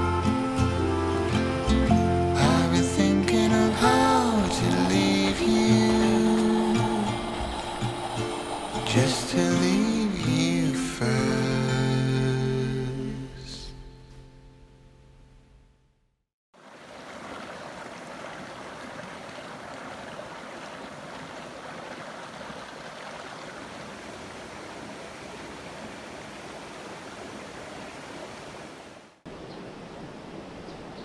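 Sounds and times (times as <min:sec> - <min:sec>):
stream water rushing: 0:00.0 - 0:12.3, 0:16.6 - 0:31.0.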